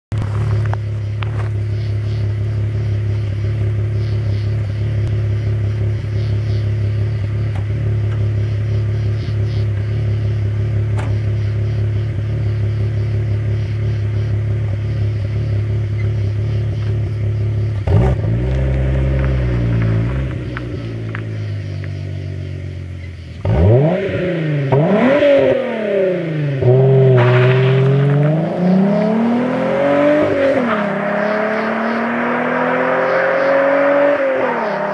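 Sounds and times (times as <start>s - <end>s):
car engine idling: 0.1s - 34.9s
car engine revving: 0.1s - 34.9s.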